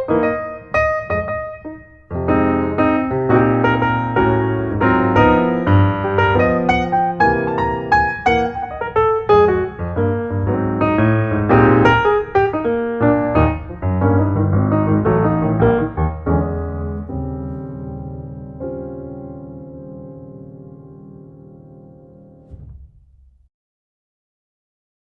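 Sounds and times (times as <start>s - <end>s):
piano music: 0.0s - 23.3s.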